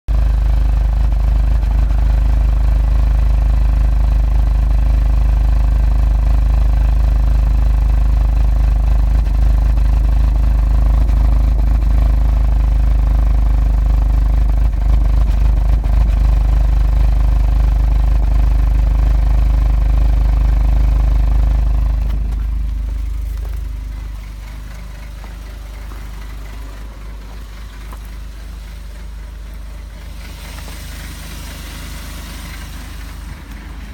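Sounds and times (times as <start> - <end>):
car engine idling rough: 0.0 - 33.9.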